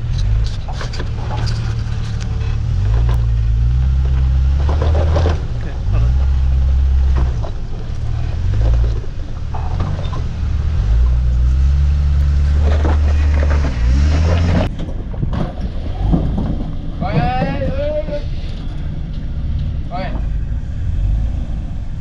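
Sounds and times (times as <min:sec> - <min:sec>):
off-road vehicle engine revving: 0:00.0 - 0:14.7, 0:15.8 - 0:22.0.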